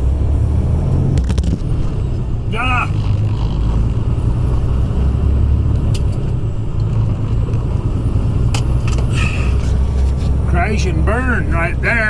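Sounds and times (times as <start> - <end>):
diesel truck engine rumble: 0.0 - 12.0.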